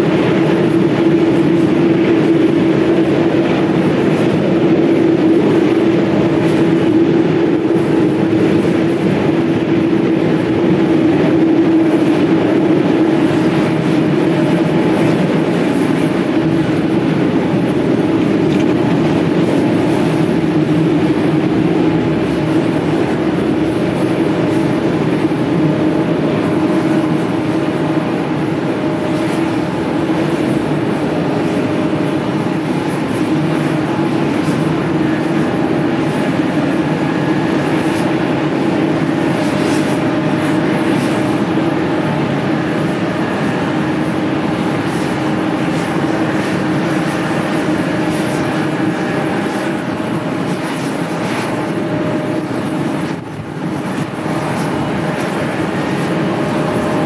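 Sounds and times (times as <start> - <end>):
faint steady whine: 0.0 - 57.0
jet engines running: 0.0 - 57.0.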